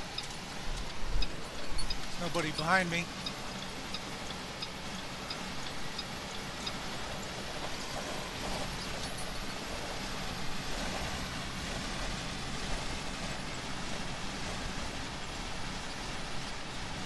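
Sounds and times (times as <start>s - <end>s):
truck engine hum: 0.0s - 17.0s.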